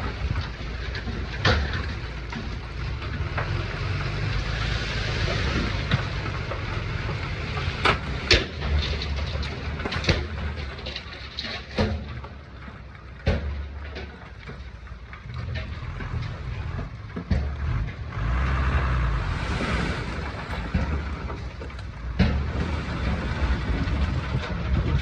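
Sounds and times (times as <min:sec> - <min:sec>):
diesel engine rumble: 0:00.0 - 0:25.0
rock scraping: 0:00.0 - 0:25.0.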